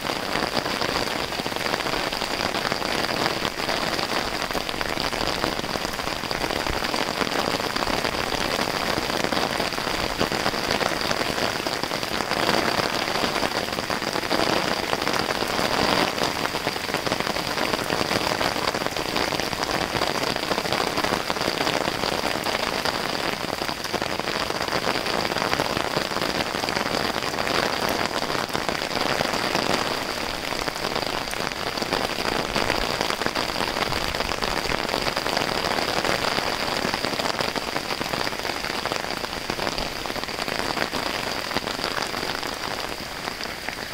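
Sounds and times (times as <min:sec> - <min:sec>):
rain on a wet street: 0:00.0 - 0:43.9.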